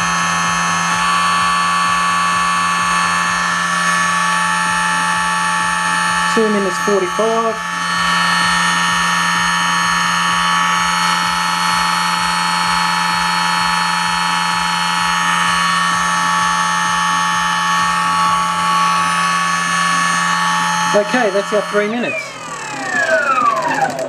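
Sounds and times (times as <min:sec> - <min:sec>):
electric motor high-pitched whine: 0:00.0 - 0:24.0.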